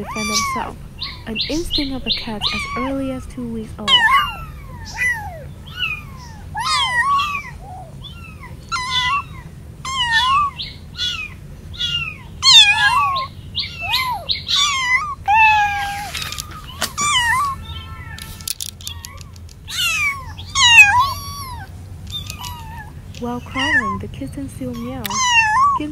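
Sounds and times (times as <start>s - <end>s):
kittens meowing: 0.0s - 25.9s.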